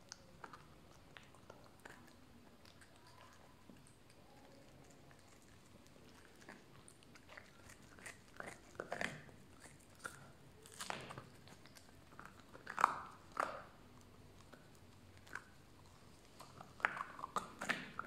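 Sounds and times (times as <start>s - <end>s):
puppy crunching on bone: 0.0s - 18.0s.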